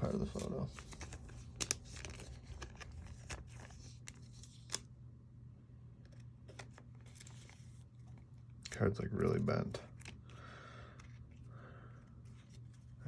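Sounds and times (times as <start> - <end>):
cards being flipped by hand: 0.0 - 4.9, 6.0 - 11.4, 12.1 - 13.0
low steady hum: 0.0 - 13.0.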